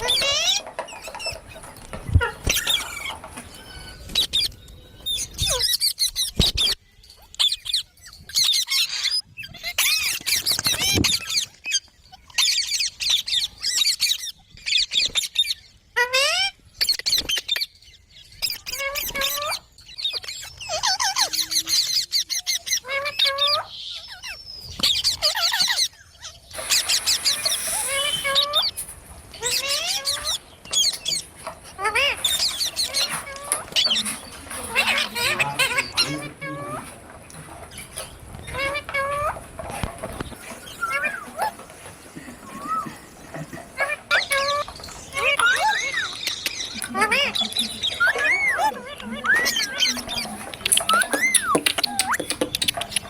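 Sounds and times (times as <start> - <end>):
parrots squawking and chirping: 0.0 - 53.0.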